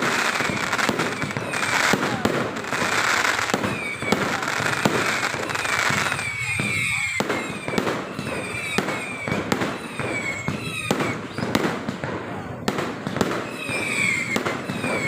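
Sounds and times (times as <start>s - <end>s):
fireworks bangs: 0.0s - 15.0s
fireworks crackling: 0.0s - 15.0s
whistling fireworks: 0.0s - 15.0s.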